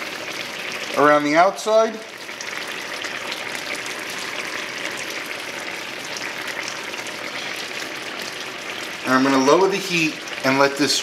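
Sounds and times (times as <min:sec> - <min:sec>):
broth boiling and sizzling: 0:00.0 - 0:11.0.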